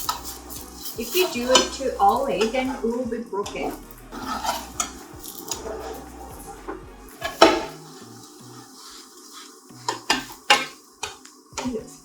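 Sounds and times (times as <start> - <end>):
spatula scraping a frying pan: 0.0 - 11.8.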